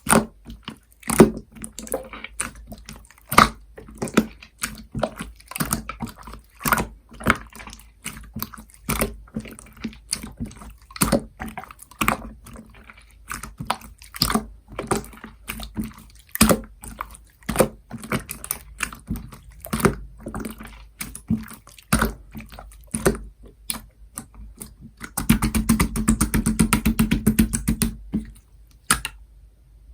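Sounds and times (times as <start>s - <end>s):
slime squished by hand: 0.0s - 29.2s.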